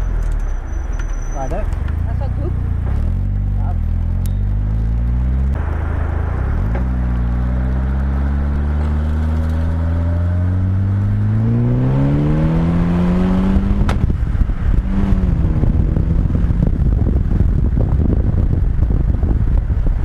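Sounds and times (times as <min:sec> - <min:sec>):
car engine accelerating: 0:01.4 - 0:20.0.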